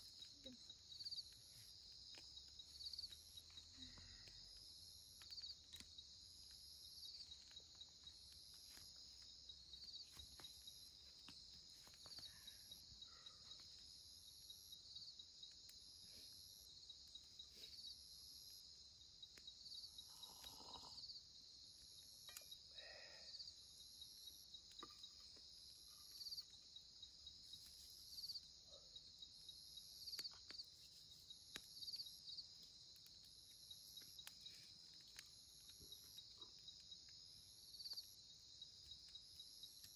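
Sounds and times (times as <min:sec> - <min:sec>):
crickets trilling: 0:00.0 - 0:39.9
higher insect chirp: 0:00.0 - 0:39.9.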